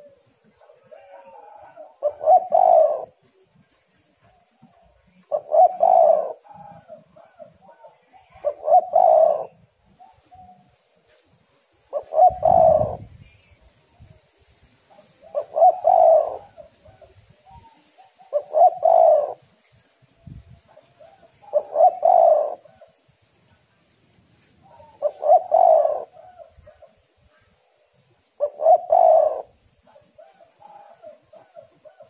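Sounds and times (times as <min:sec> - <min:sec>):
dove cooing: 0:00.0 - 0:11.0, 0:11.8 - 0:13.3, 0:14.9 - 0:23.1, 0:24.6 - 0:32.0.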